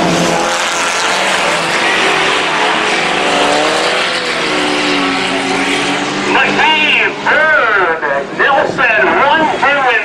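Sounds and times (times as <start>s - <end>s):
race truck engines revving: 0.0s - 10.0s.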